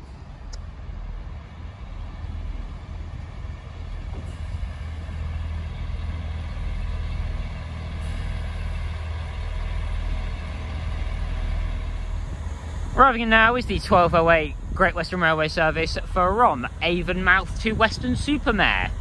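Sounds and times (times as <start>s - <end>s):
diesel train engines humming: 0.0s - 19.0s.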